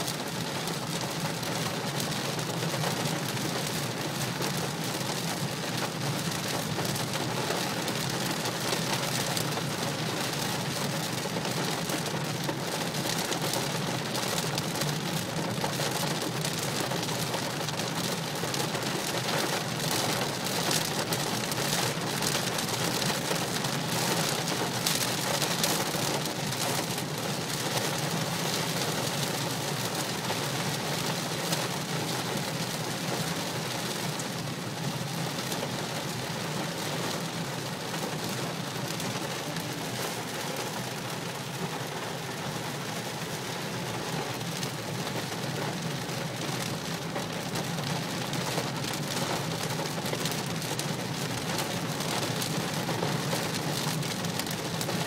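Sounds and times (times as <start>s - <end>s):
rain and hail on car roof: 0.0s - 55.0s.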